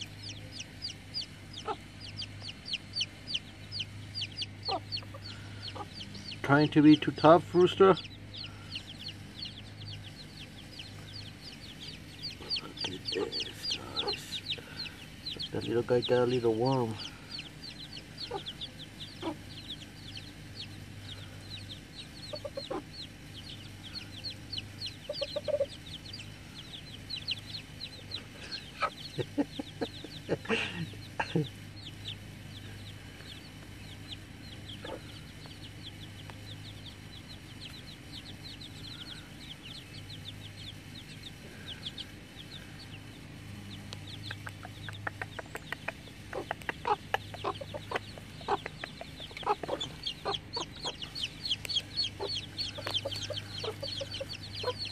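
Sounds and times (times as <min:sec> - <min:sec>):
chicks peeping: 0:00.0 - 0:54.9
hens clucking: 0:00.0 - 0:54.9.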